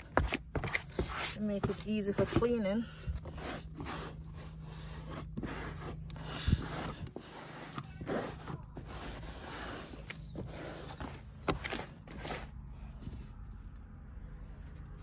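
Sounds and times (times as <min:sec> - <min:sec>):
cloth rubbing on plastic: 0:00.0 - 0:12.6.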